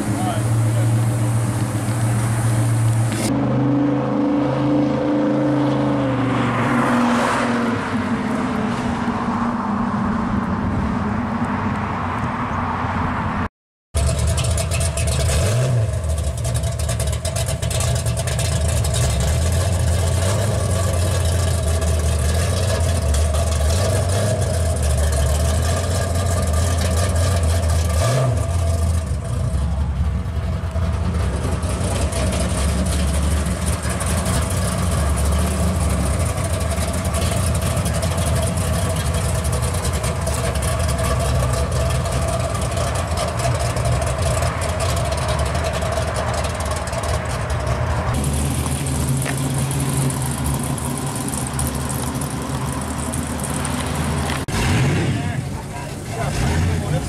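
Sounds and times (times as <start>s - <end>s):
car engine idling: 0.0s - 3.3s, 14.0s - 57.0s.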